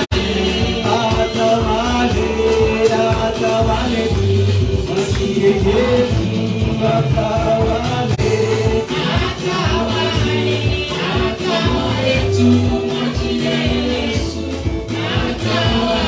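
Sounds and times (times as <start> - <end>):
band with steady bass: 0.0 - 16.0
voices singing: 0.0 - 16.0.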